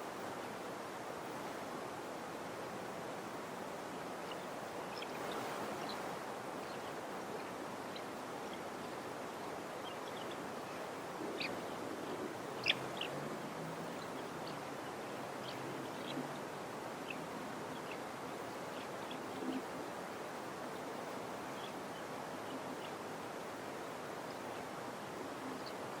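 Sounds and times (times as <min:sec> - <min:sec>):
white noise hiss: 0:00.0 - 0:26.0
small birds chirping: 0:03.4 - 0:26.0.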